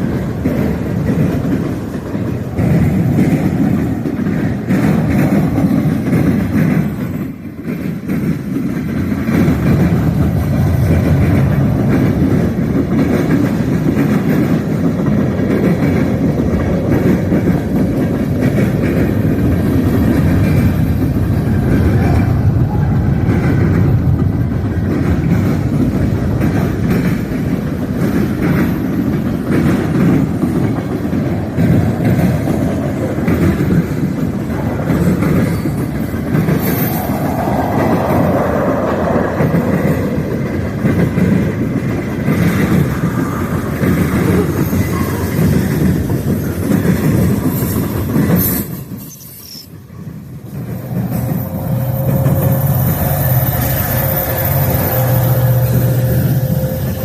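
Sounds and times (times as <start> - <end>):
freight train rumbling: 0.0 - 57.0
wheels clacking over rail joints: 0.0 - 57.0.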